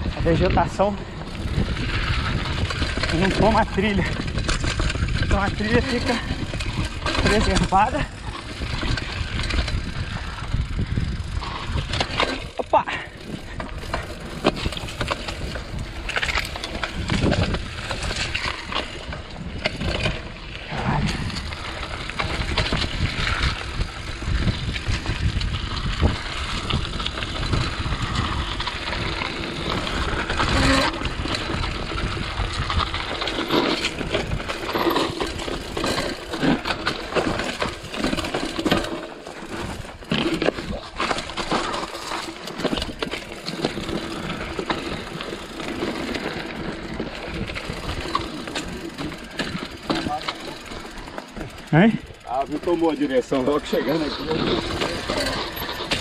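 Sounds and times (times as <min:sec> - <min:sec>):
bike parts rattling: 0:00.0 - 0:56.0.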